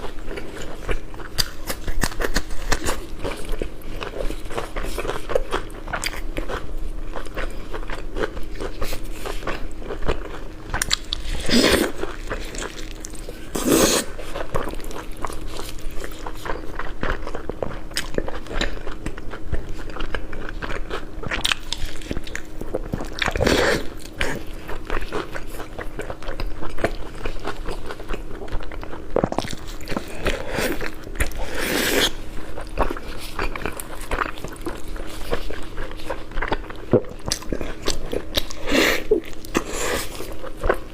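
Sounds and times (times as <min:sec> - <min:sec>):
faint steady hum: 0:00.0 - 0:40.9
wet chewing and biting: 0:00.0 - 0:40.9.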